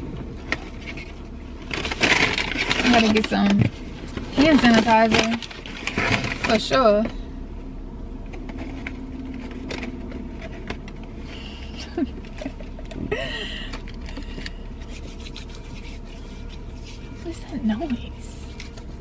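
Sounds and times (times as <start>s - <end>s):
steady low hum: 0.0s - 19.0s
rustles of things handled: 0.4s - 7.2s, 8.3s - 19.0s.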